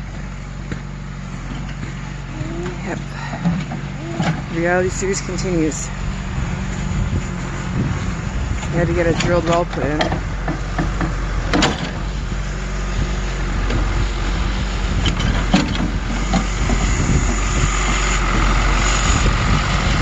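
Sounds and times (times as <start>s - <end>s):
drilling rig engine running: 0.0s - 20.0s
high whine: 1.4s - 20.0s.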